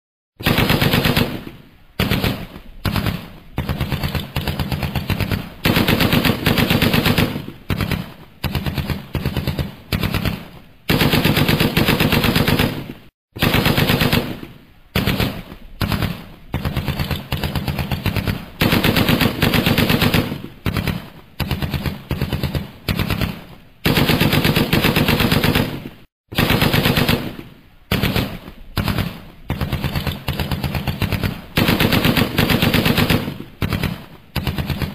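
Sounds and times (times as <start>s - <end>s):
automatic machine-gun fire: 0.4s - 34.9s.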